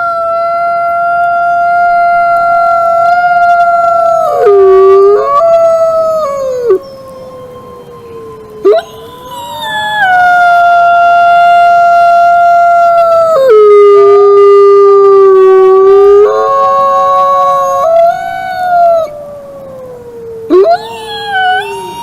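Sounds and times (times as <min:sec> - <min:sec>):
wolves howling: 0:01.2 - 0:22.0.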